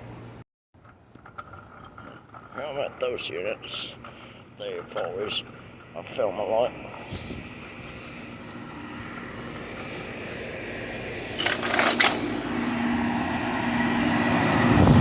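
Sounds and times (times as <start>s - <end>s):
air conditioner fan and compressor hum: 0.0s - 15.0s.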